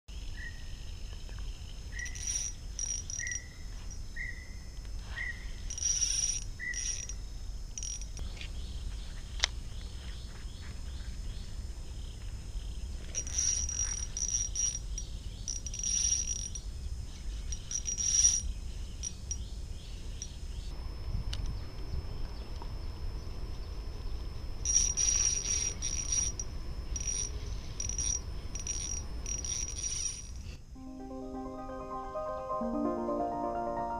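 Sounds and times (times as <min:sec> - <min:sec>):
insects chirping: 0:00.1 - 0:30.8.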